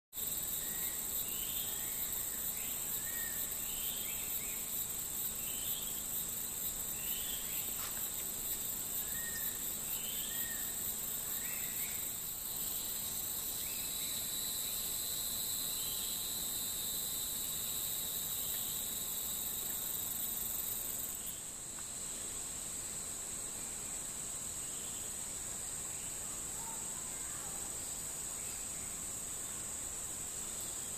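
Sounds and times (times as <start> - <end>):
insect chorus: 0.1 - 30.9.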